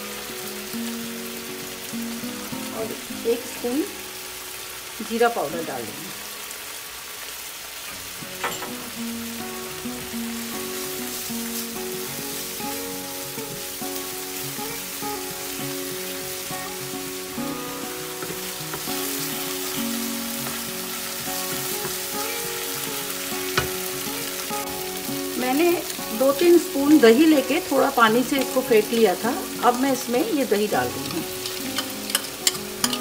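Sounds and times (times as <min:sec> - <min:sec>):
paste sizzling in pan: 0:00.0 - 0:33.0.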